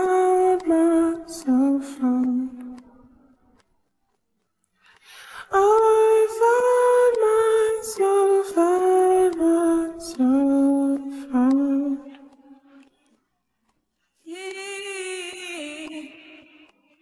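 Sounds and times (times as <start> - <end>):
person singing wordless melody: 0.0 - 3.7, 5.0 - 13.0, 14.2 - 17.0.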